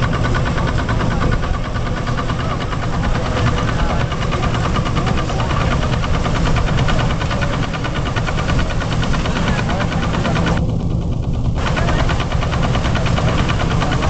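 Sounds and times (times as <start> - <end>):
threshing machine running: 0.0 - 14.0
tractor engine knocking: 0.0 - 14.0.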